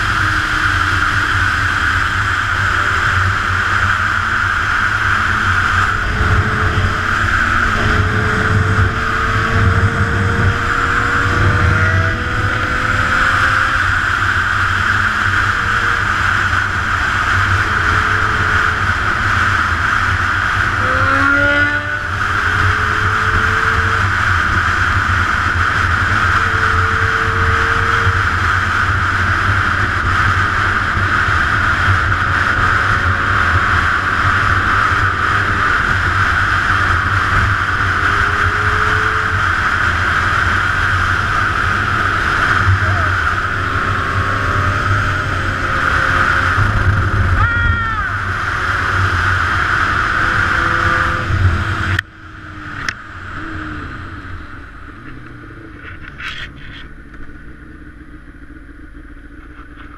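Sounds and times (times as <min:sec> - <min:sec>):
motorcycle engine revving: 0:00.0 - 0:59.9
road noise: 0:00.0 - 0:59.9
wind roar: 0:00.0 - 0:59.9.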